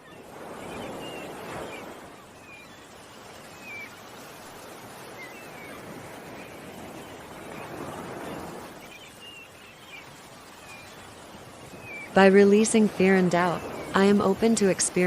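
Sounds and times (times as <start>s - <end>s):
ocean waves washing on shore: 0.0s - 15.0s
small birds chirping: 0.0s - 15.0s.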